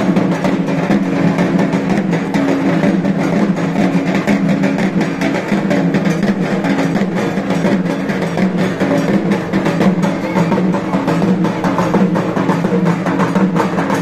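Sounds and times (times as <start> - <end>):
fast continuous drumming: 0.0 - 14.0.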